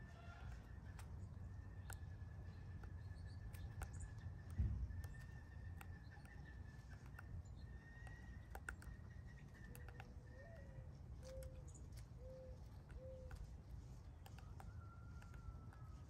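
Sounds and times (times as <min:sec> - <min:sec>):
woodpecker pecking suet: 0:00.0 - 0:16.0.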